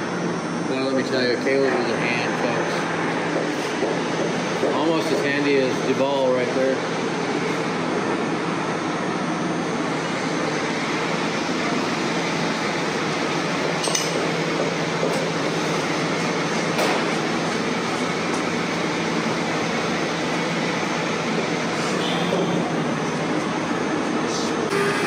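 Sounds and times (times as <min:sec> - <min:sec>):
mechanical hum and whir: 0:00.0 - 0:25.0.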